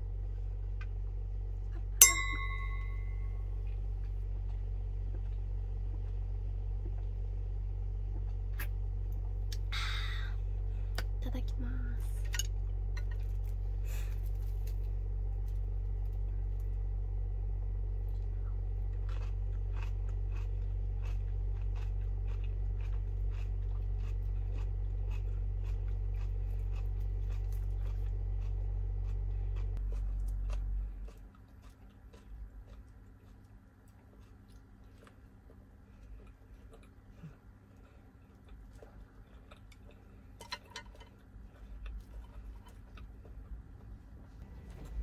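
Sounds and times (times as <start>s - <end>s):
chewing and crunching: 0.0s - 9.7s, 10.3s - 45.0s
steady low hum: 0.0s - 45.0s.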